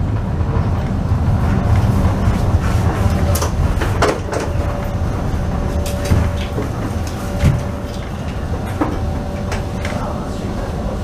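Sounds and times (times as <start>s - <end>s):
knocks and clicks: 0.0s - 10.0s
faint steady whine: 0.0s - 11.0s
railway car low rumble: 0.0s - 11.0s.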